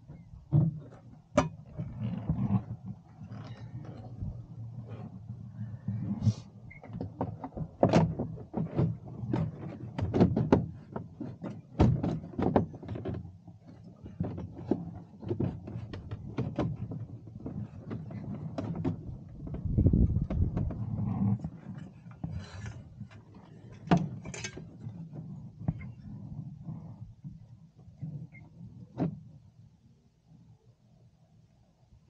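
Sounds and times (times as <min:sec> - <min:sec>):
knocks and rubbing of equipment: 0:00.1 - 0:29.3.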